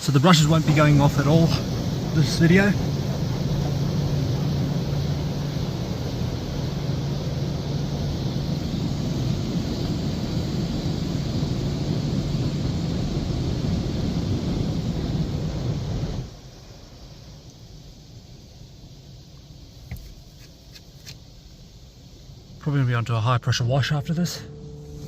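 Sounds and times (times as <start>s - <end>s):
low machine hum: 0.0s - 20.3s, 21.3s - 25.0s.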